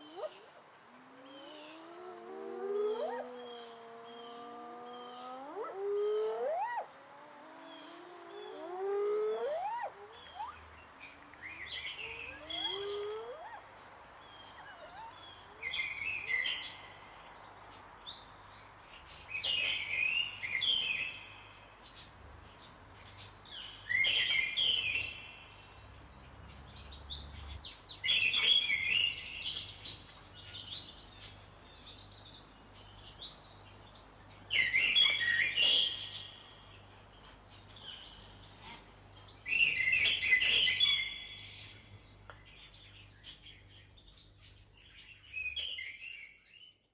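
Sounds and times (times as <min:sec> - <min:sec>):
bird chirping: 0:00.0 - 0:13.7, 0:14.3 - 0:17.4, 0:19.0 - 0:46.9
faint background hiss: 0:00.0 - 0:46.9.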